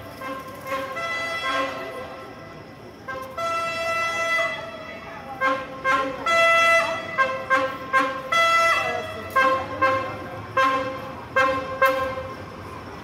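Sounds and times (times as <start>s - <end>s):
locomotive horn toots: 0.0s - 2.4s, 3.0s - 12.5s.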